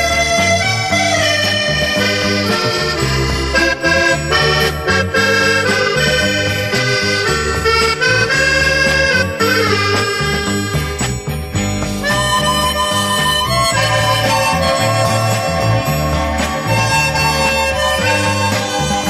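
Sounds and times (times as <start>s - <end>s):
accordion chords: 0.0s - 19.0s
steady bass line: 0.0s - 19.0s.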